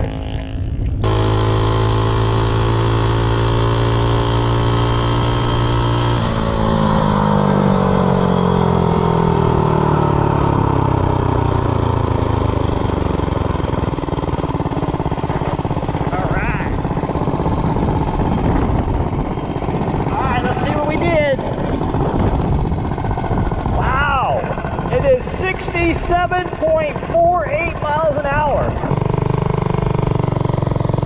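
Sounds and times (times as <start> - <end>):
minibike engine revving: 0.0 - 31.0.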